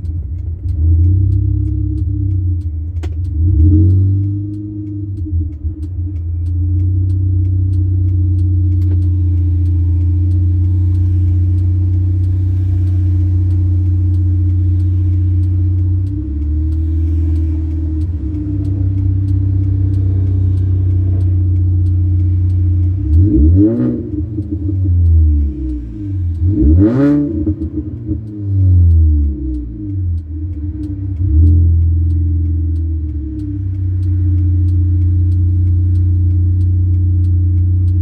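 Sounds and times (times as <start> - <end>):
car engine and exhaust running: 0.0 - 38.0.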